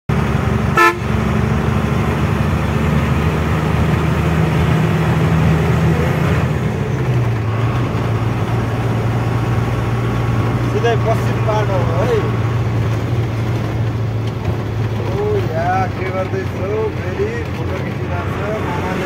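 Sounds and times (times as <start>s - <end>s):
road noise: 0.1s - 19.0s
truck engine running: 0.1s - 19.0s.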